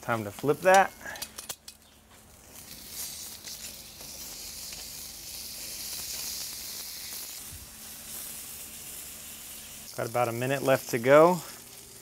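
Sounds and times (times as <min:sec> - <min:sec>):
steak sizzling on hot block: 0:02.2 - 0:12.0.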